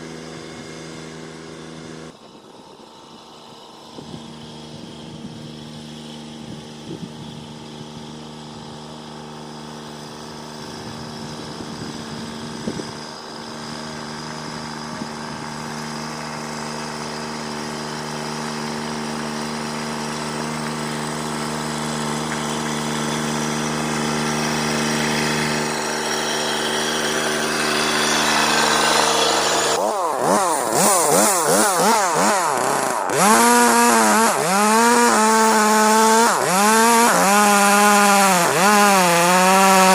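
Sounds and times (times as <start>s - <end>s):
small gasoline engine running: 0.0s - 39.9s
saw blade hissing through wood: 3.0s - 39.9s.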